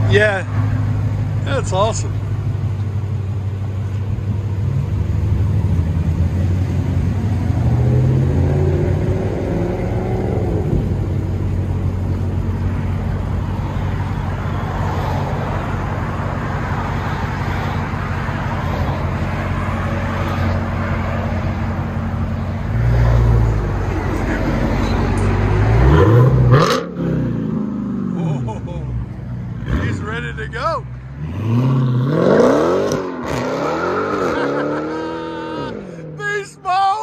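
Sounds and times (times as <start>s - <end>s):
road traffic noise: 0.0s - 37.0s.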